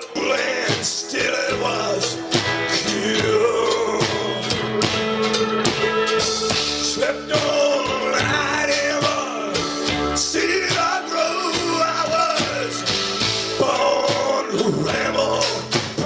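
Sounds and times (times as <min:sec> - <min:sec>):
drum kit steady beat: 0:00.0 - 0:16.0
live rock band playing: 0:00.0 - 0:16.0
person singing: 0:00.0 - 0:16.0.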